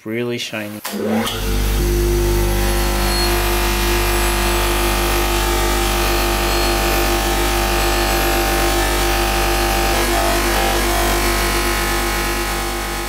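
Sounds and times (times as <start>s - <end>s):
bench grinder motor humming: 0.9s - 13.0s
metal part buffed on wheel: 1.0s - 13.0s.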